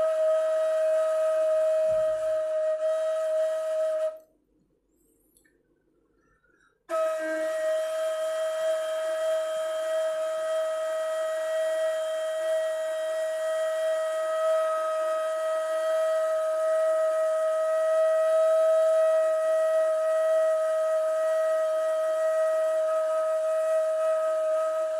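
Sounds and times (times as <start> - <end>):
end-blown flute long note: 0.0 - 4.2, 6.9 - 24.9.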